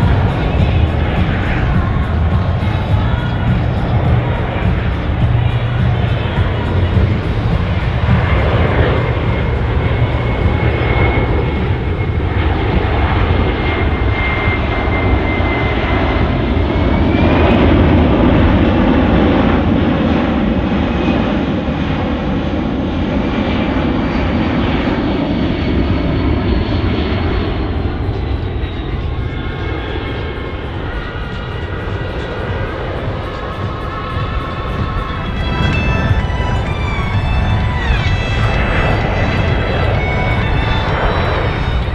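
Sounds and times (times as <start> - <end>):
jet engines whining overhead: 0.0 - 41.9.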